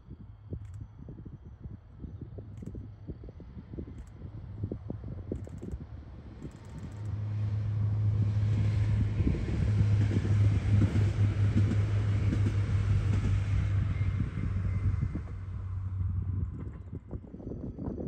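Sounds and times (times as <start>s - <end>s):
diesel railcar engine drone: 0.2s - 18.0s.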